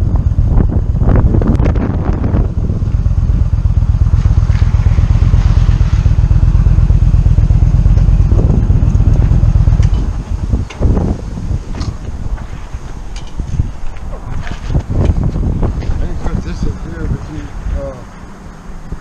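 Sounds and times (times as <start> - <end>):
motorcycle engine rumbling: 0.0 - 19.0
wind buffeting microphone: 0.0 - 19.0.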